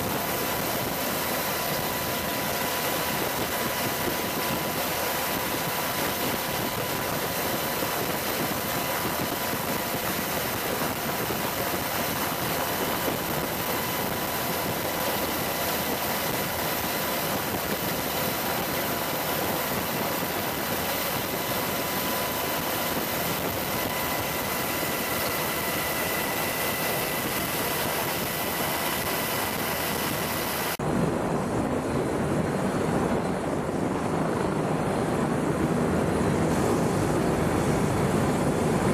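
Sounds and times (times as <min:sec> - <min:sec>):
faint steady whine: 0:00.0 - 0:38.9
helicopter turbine and rotor noise: 0:00.0 - 0:38.9
helicopters with rotors turning: 0:00.0 - 0:38.9.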